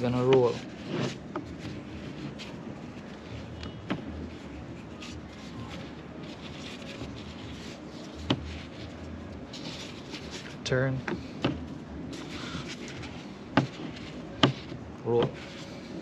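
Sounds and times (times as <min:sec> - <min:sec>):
rolling pin rolling dough: 0:00.0 - 0:16.0.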